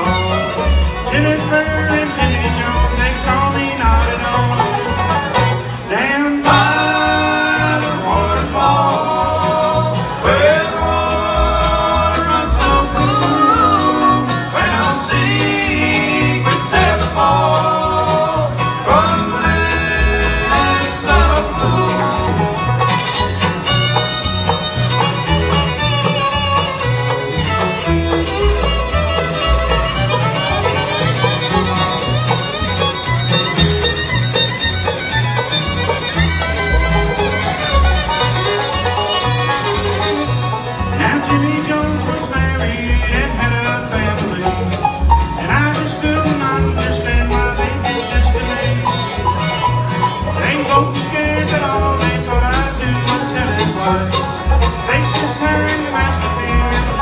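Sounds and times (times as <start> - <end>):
acoustic guitar: 0.0 - 57.0
banjo: 0.0 - 57.0
fiddle: 0.0 - 57.0
upright bass: 0.0 - 57.0.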